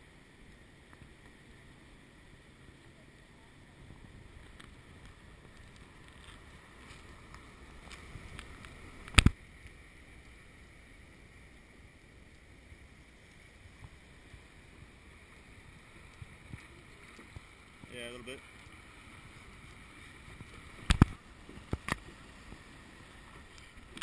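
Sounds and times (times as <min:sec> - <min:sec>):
water lapping and splashing: 0:00.0 - 0:24.0.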